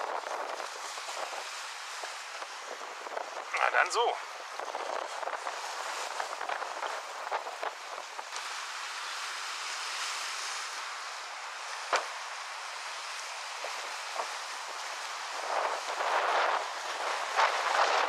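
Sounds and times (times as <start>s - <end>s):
wind and choppy waves: 0.0s - 18.0s.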